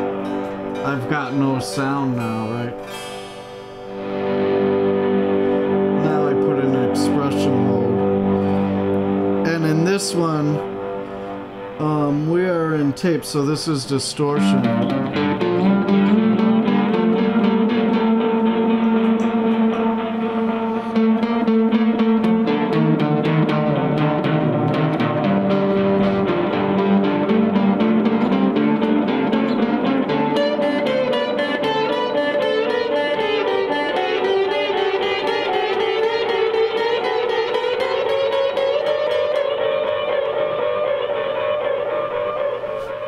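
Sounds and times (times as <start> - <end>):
slide guitar with echoing delay: 0.0 - 43.0.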